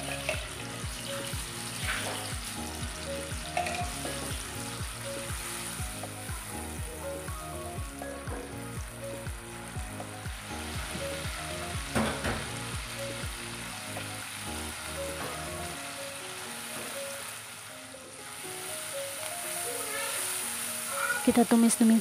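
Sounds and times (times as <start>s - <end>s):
onions sizzling in hot oil: 0.0s - 22.0s
soft background music with beat: 0.0s - 22.0s.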